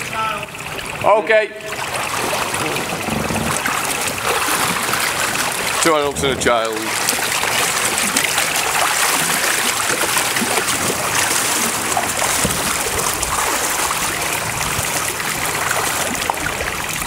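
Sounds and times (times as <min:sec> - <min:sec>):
floodwater sloshing and splashing: 0:00.0 - 0:17.0
small crackling splashes: 0:00.0 - 0:17.0.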